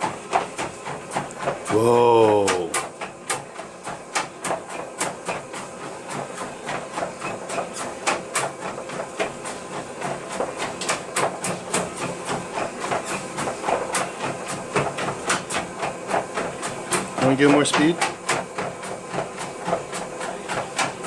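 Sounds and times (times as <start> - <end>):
dog paws clicking on treadmill: 0.0 - 21.0
treadmill motor hum: 0.0 - 21.0.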